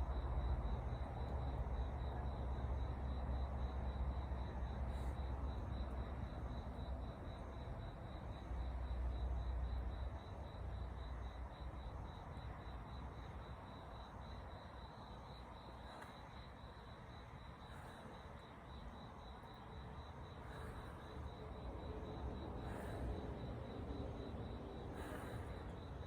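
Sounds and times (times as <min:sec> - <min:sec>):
soft outdoor hiss: 0:00.0 - 0:26.0.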